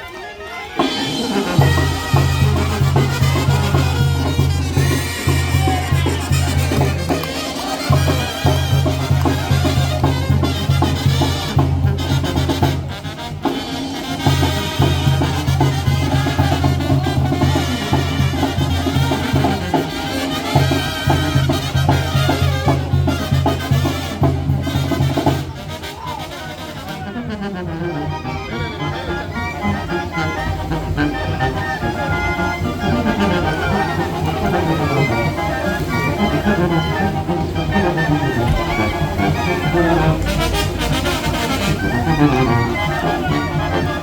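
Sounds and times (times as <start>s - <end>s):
upbeat latin music with brass: 0.0s - 44.0s.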